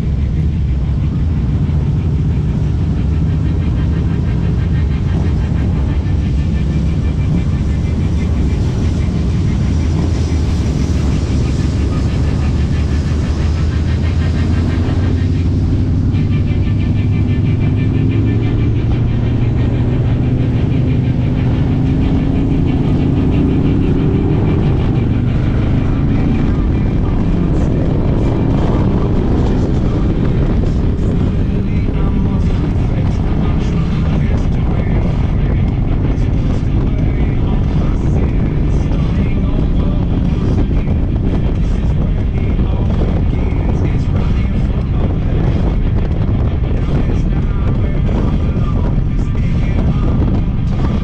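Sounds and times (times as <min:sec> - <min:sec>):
fast regular ticking: 0:00.0 - 0:51.0
vehicle engine droning: 0:00.0 - 0:51.0.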